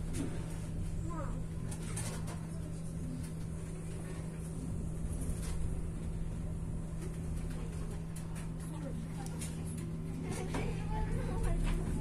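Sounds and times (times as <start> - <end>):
train carriage hum and rumble: 0.0 - 12.0.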